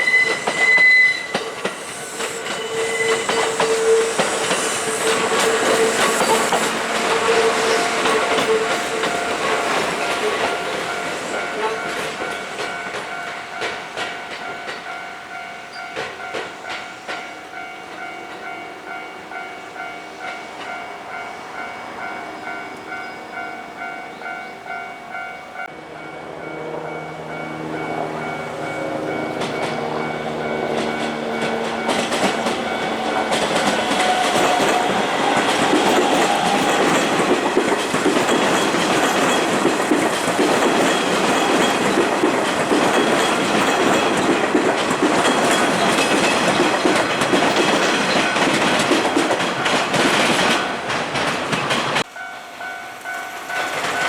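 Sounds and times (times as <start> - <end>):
train wheels clattering: 0.0 - 21.2, 26.5 - 54.0
level-crossing warning bell: 0.0 - 54.0.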